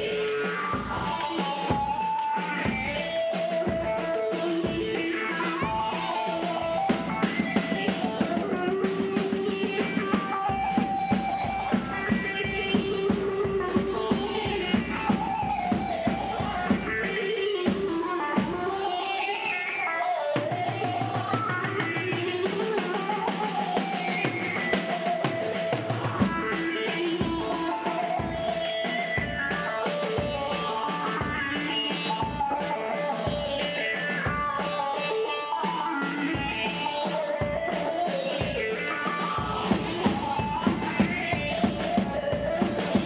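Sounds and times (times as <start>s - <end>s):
steady drum beat: 0.0s - 18.8s, 20.4s - 43.0s.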